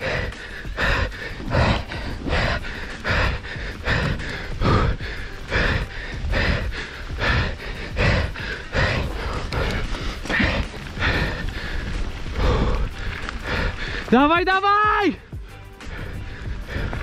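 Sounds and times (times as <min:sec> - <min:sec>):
person panting hard: 0:00.0 - 0:14.1, 0:15.2 - 0:17.0.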